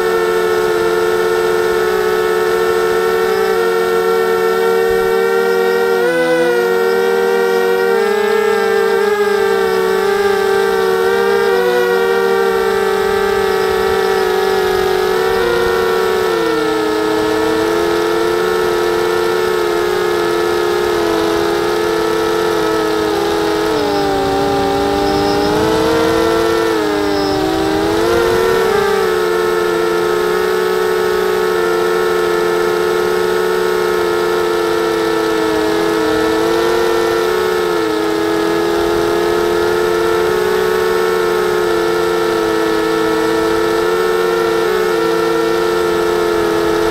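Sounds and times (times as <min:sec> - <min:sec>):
drone motors and propellers whining: 0:00.0 - 0:46.9.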